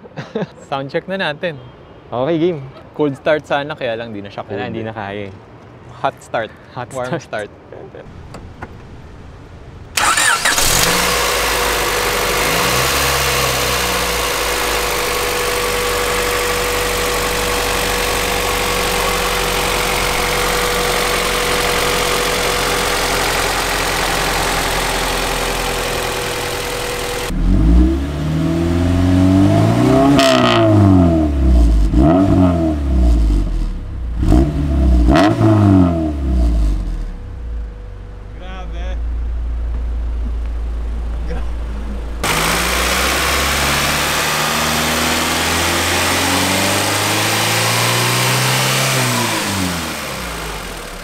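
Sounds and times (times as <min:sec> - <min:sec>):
car engine starting and idling: 0:08.0 - 0:51.0
car engine revving: 0:08.1 - 0:51.0.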